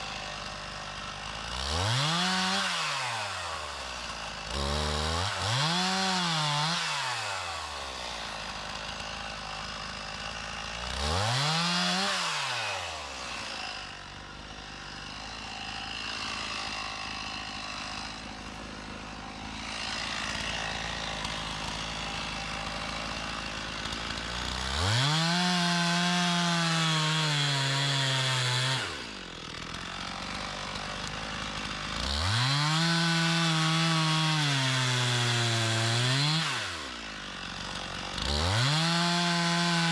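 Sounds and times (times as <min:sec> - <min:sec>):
chainsaw cutting through wood: 0:00.0 - 0:39.9
chainsaw idling and revving: 0:00.0 - 0:39.9.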